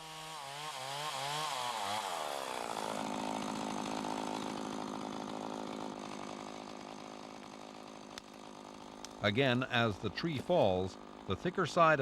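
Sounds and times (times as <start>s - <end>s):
chainsaw cutting: 0.0s - 12.0s.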